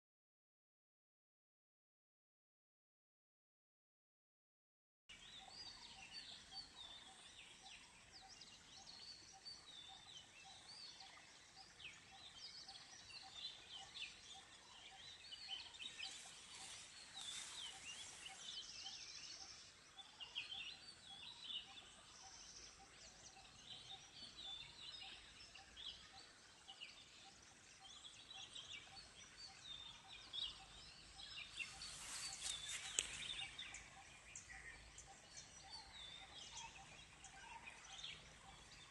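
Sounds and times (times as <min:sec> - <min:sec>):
birds chirping and twittering: 0:05.1 - 0:38.9.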